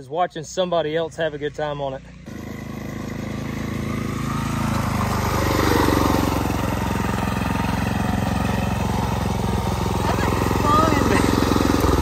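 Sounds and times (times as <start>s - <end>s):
scooter engine passing: 0.8s - 12.0s.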